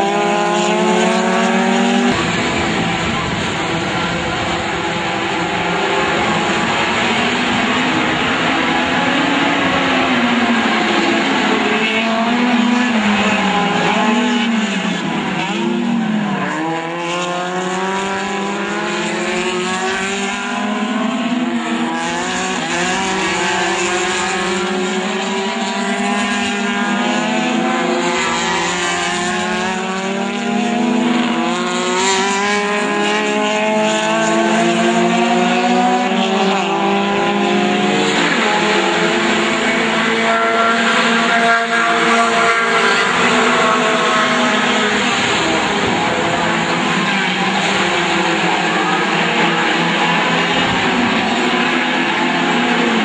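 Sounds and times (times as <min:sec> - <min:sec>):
racing car engines revving: 0:00.0 - 0:53.0.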